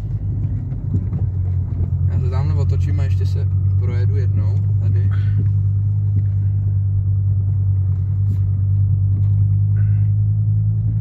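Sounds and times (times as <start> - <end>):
diesel engine droning in car cabin: 0.0 - 11.0.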